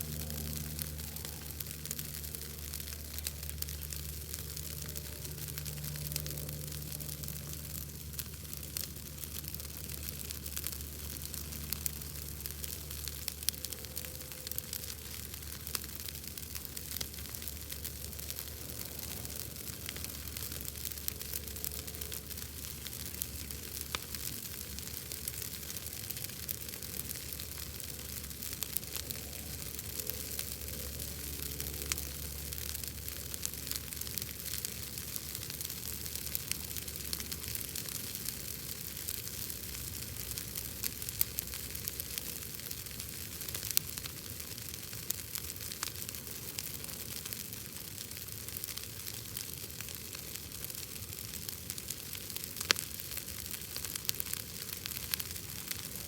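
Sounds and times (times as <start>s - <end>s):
bonfire crackling and popping: 0.0s - 56.0s.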